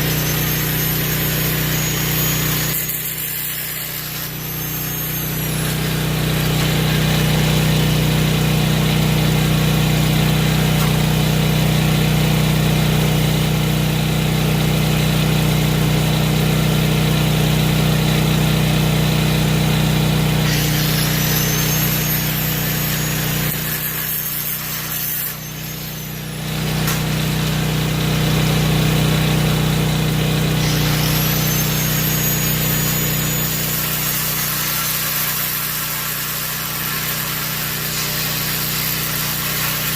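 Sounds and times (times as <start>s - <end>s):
angle grinder cutting: 0.0s - 39.9s.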